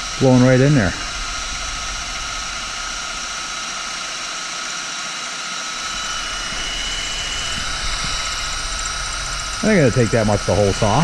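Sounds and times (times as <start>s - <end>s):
cordless drill whining under load: 0.0s - 11.0s.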